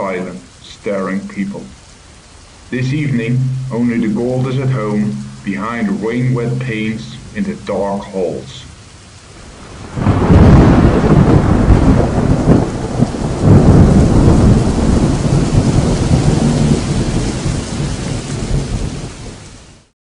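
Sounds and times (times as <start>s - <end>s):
rain: 0.0s - 20.0s
rumbling thunder: 1.2s - 8.8s, 9.4s - 19.6s.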